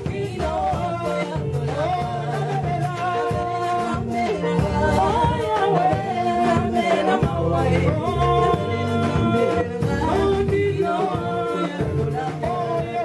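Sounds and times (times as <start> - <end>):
bass: 0.0 - 13.0
gospel singing: 0.0 - 13.0
steady drum beat: 0.0 - 13.0.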